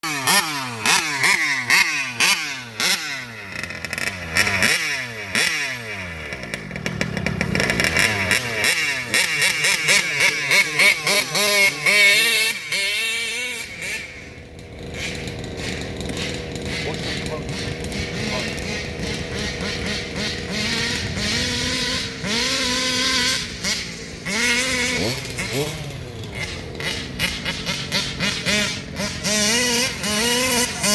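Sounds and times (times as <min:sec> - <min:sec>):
rc car engine revving: 0:00.0 - 0:30.9.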